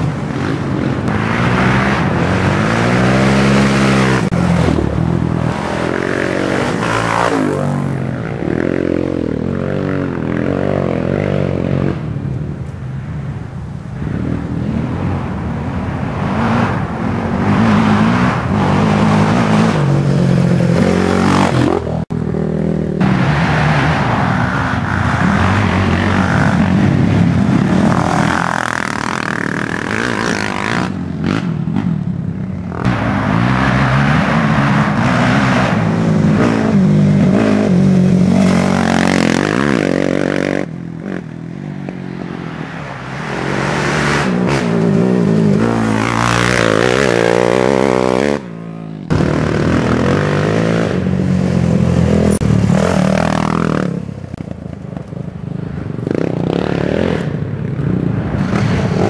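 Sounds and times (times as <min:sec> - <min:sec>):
quad engines revving: 0:00.0 - 0:12.2, 0:16.1 - 0:54.4, 0:56.0 - 0:59.0.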